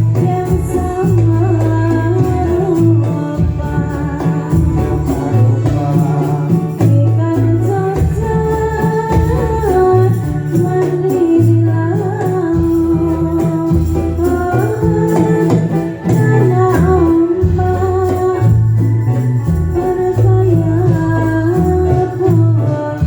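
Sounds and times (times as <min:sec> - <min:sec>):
hand percussion: 0:00.0 - 0:23.0
low drum beats: 0:00.0 - 0:23.0
person singing wavering melody: 0:00.0 - 0:23.0.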